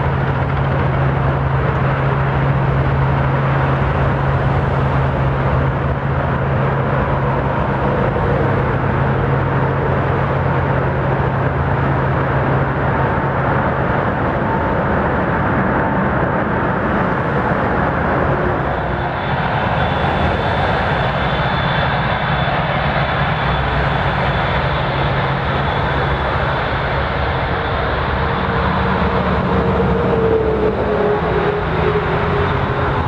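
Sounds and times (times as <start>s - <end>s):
jet engines rumbling with high whine: 0.0s - 33.0s.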